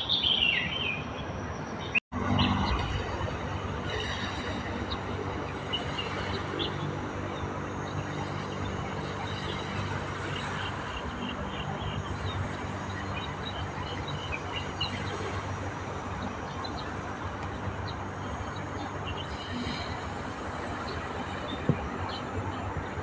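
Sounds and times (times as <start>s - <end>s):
low hum: 1.3s - 23.0s
small birds chirping: 3.5s - 23.0s.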